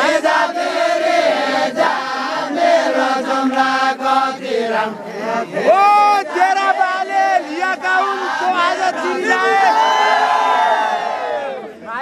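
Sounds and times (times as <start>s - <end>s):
group of men singing: 0.0s - 10.3s.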